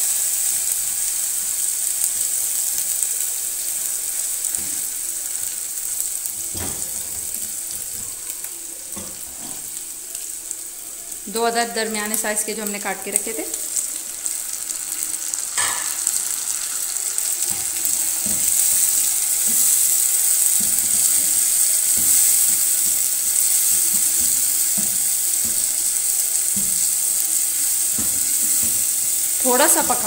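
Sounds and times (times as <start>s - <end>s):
tomatoes sizzling in hot oil: 0.0s - 30.0s.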